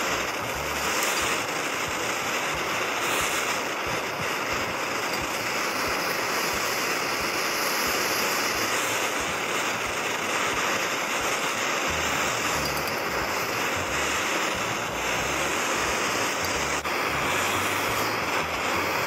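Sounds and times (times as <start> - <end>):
gas torch flame hissing: 0.0 - 19.0.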